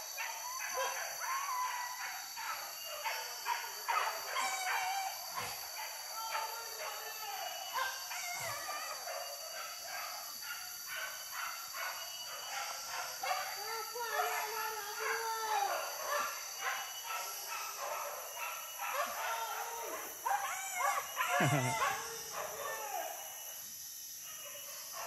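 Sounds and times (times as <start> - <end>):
dogs barking and baying: 0.2 - 23.2
dogs howling: 0.2 - 23.4.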